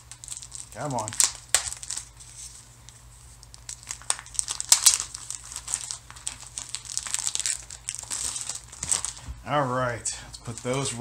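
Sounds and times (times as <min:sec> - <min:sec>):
packaging crinkling: 0:00.0 - 0:09.4, 0:10.4 - 0:11.0.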